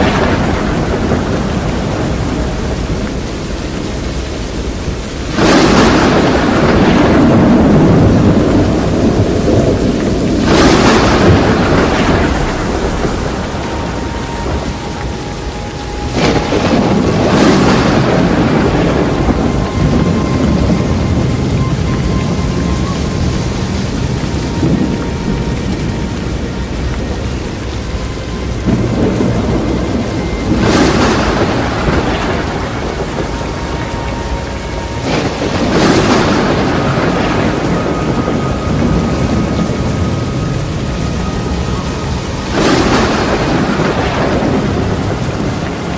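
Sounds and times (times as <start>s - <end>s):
heavy rain: 0.0s - 45.9s
thunder rumbling: 0.0s - 45.9s
wind roar: 0.0s - 45.9s.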